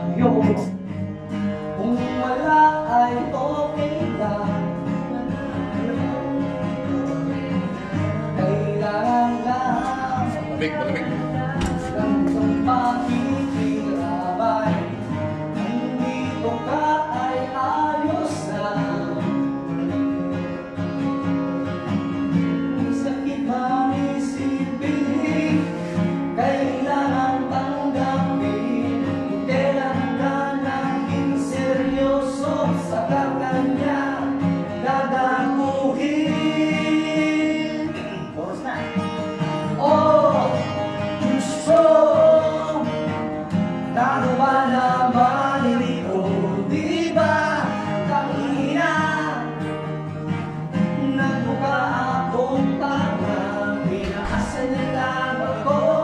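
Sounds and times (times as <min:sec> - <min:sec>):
acoustic guitars strummed: 0:00.0 - 0:56.0
man singing: 0:00.0 - 0:56.0.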